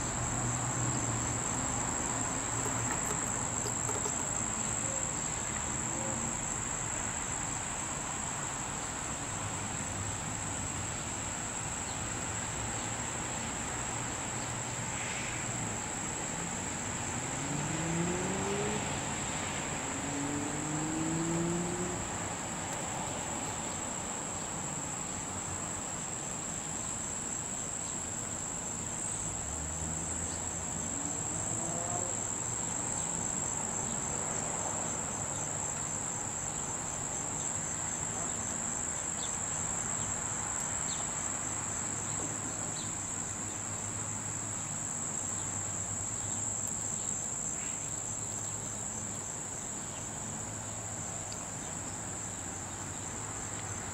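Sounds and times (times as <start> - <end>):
insect chorus trilling: 0.0 - 53.9.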